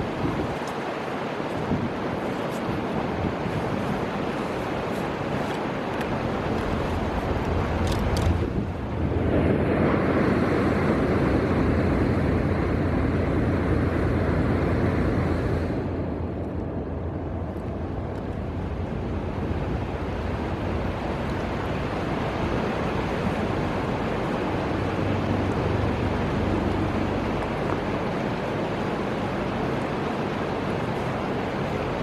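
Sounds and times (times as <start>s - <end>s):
river rushing: 0.0s - 32.0s
wind buffeting microphone: 0.0s - 32.0s.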